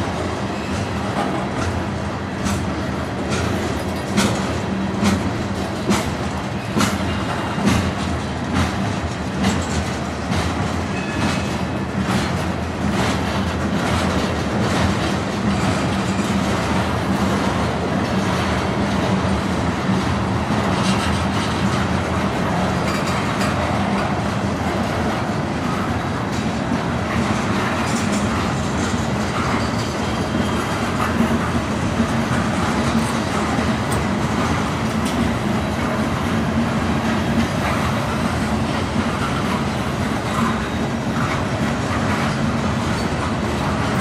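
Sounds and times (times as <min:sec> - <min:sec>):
freight train cars rumbling: 0:00.0 - 0:44.0
wheels clacking over rail joints: 0:00.0 - 0:44.0.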